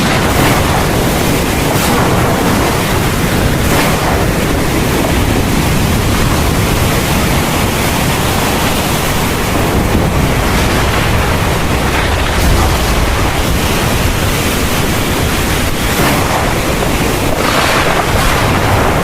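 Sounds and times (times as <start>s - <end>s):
heavy rain hiss: 0.0s - 19.0s.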